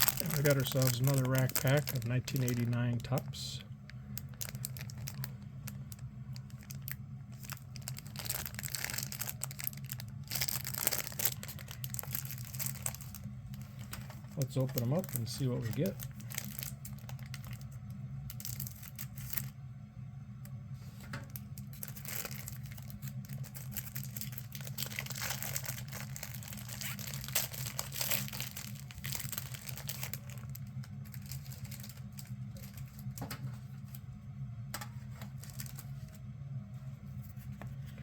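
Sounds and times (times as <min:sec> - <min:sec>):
wrapper crinkling and tearing: 0:00.0 - 0:19.6, 0:21.3 - 0:34.0, 0:35.0 - 0:36.2
steady low hum: 0:00.0 - 0:38.0.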